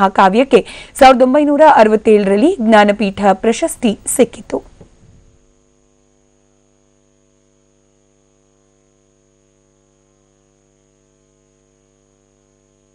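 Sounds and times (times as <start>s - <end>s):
electrical mains hum: 0.0s - 12.9s.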